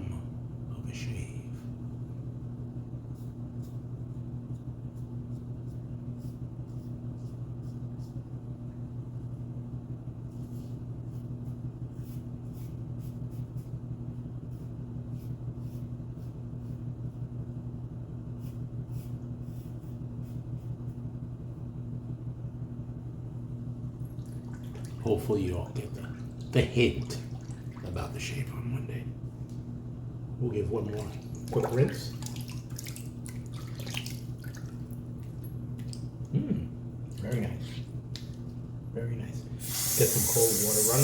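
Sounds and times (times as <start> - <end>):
low electrical fan hum: 0.0 - 41.0.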